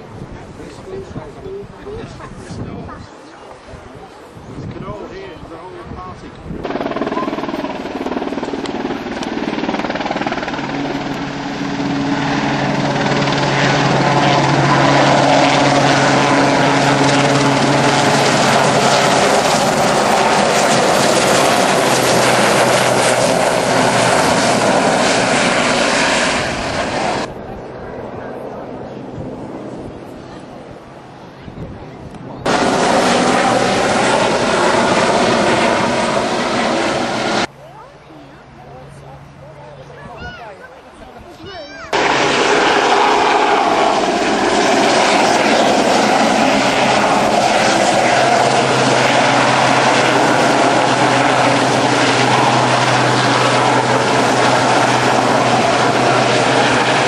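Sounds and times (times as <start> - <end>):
helicopter engines and rotors: 0.0 - 57.0.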